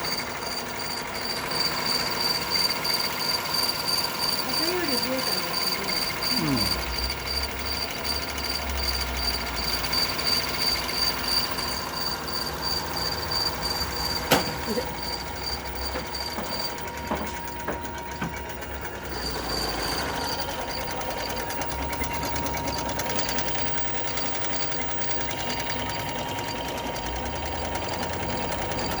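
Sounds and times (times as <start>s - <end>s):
sewing machine clicks: 0.0s - 29.0s
sewing machine ticking and whining: 0.0s - 29.0s.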